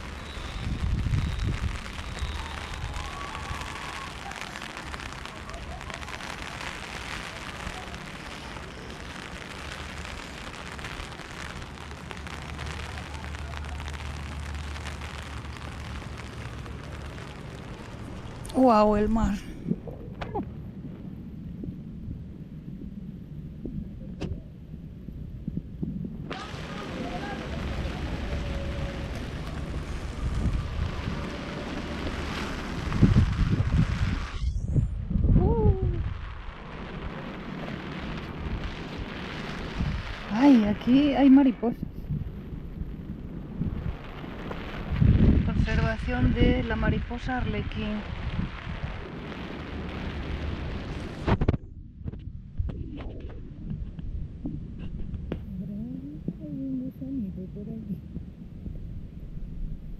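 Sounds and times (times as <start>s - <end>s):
steady rain: 0.0s - 23.8s, 25.4s - 51.4s
wind rumble on microphone: 0.0s - 59.9s.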